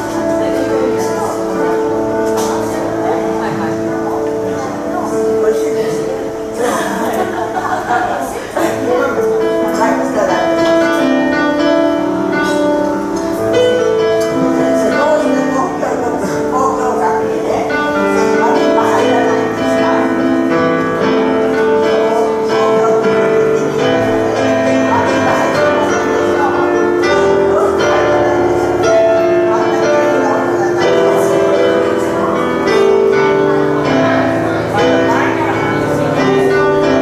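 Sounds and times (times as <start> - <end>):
grand piano improvisation: 0.0 - 37.0.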